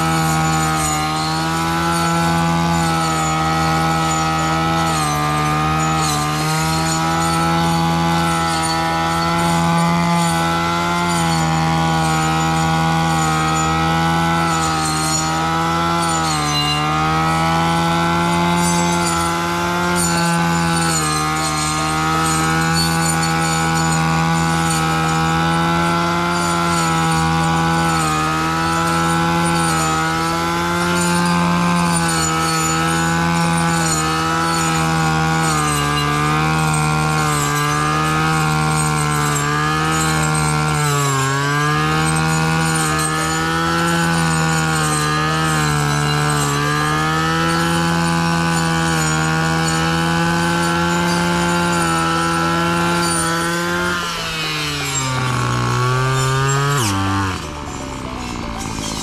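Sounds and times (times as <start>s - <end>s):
brush cutter engine cutting grass: 0.0s - 59.0s.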